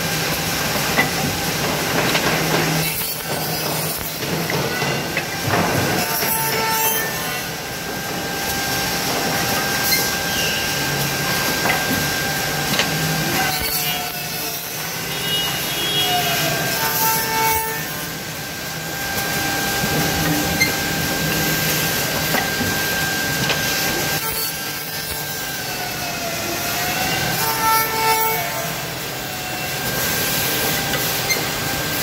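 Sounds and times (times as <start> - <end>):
machine cutting wood: 0.2 - 32.0.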